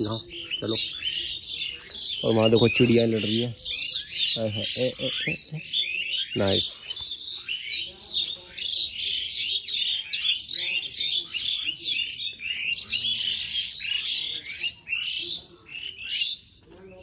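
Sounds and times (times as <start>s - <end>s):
birds squabbling: 0.0s - 17.0s.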